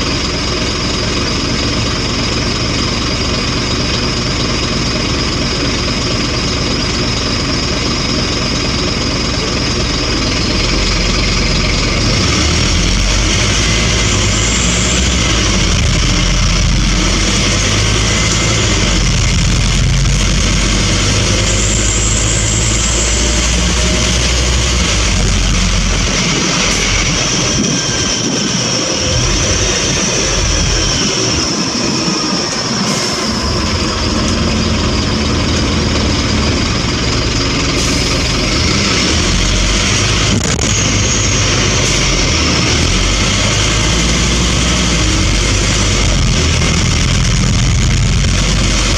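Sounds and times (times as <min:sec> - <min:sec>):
bus engine running: 0:00.0 - 0:48.9
high whine: 0:00.0 - 0:48.9.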